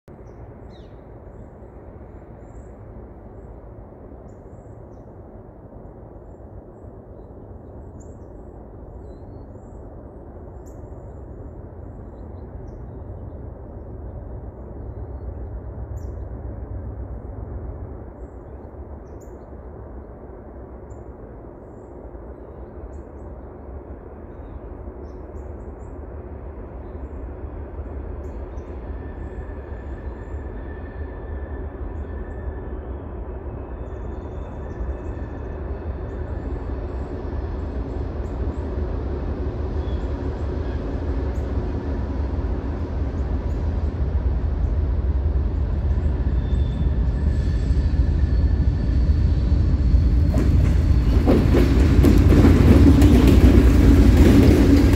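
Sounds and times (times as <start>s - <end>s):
freight train locomotives rumbling: 0.1s - 54.9s.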